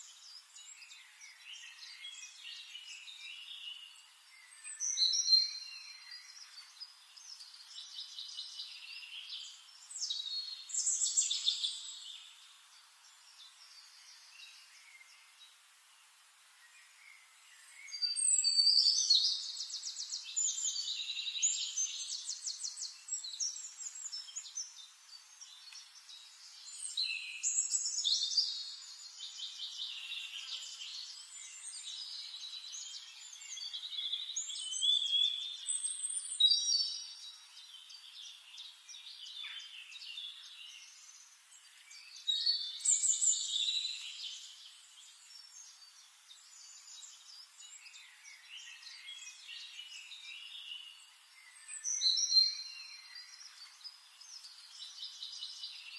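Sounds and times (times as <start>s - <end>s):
faint background hiss: 0.0s - 55.9s.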